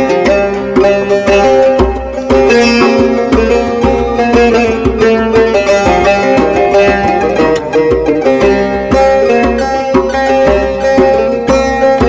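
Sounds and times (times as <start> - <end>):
plucked string melody over a beat: 0.0 - 12.0.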